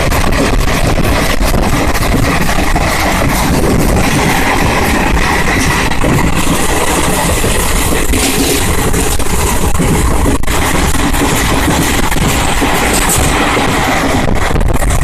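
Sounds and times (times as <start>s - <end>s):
rushing wind: 0.0s - 15.0s
train wheels rumbling on rails: 0.0s - 15.0s.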